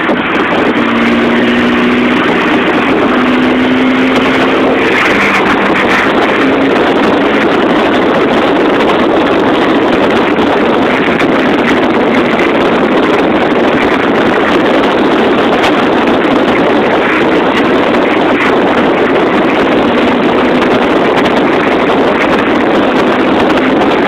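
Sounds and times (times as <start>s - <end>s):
engine drone: 0.0s - 24.0s
wind and road noise: 0.0s - 24.0s.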